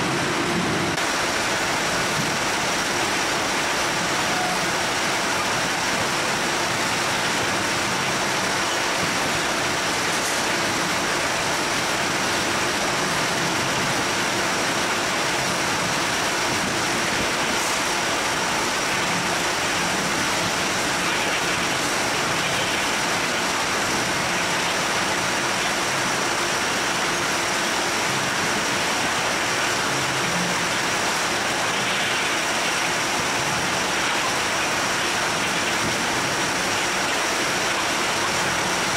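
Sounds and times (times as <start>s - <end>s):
conveyor machinery din: 0.0s - 38.9s.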